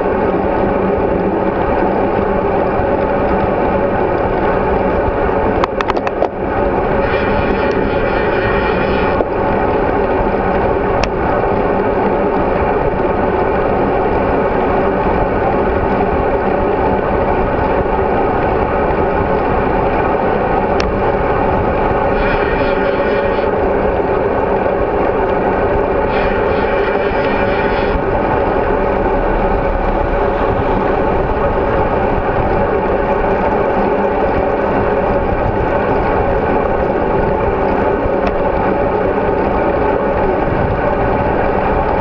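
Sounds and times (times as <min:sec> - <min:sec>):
wind rushing: 0:00.0 - 0:42.0.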